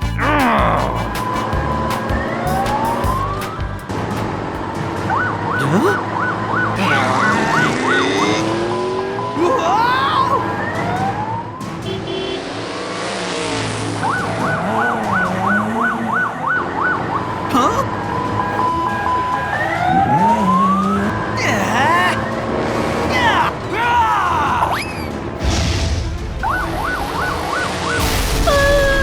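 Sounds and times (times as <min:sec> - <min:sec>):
two-tone siren: 0:01.0 - 0:03.8, 0:04.6 - 0:23.6, 0:26.4 - 0:29.0.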